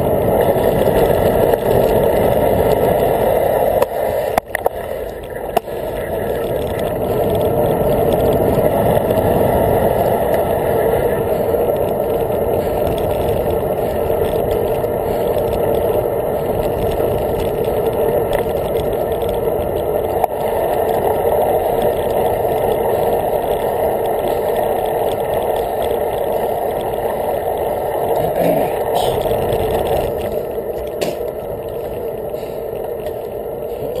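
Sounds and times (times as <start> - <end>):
wind and tyre rumble: 0.0 - 34.0.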